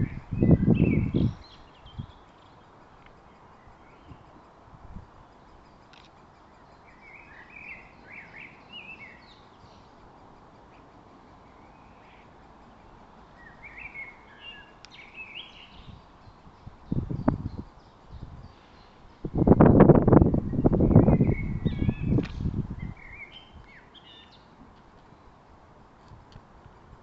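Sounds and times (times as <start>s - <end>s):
woodpecker nestling chattering calls: 0.0s - 19.8s, 20.6s - 24.4s.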